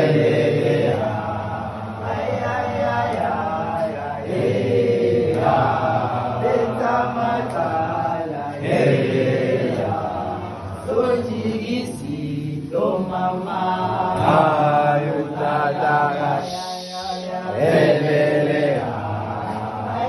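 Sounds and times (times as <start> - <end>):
group of boys singing: 0.0 - 20.0.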